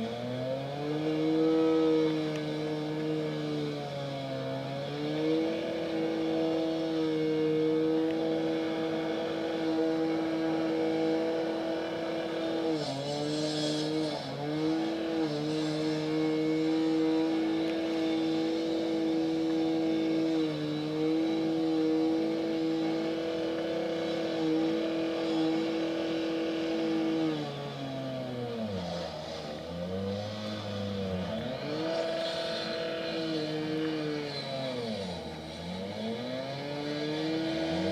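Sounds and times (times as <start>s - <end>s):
machinery engine running: 4.6s - 37.9s.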